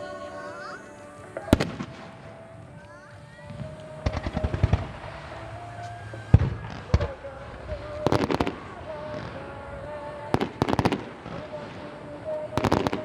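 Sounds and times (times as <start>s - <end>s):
faint music: 0.0s - 13.0s
fireworks bursting: 1.3s - 13.0s.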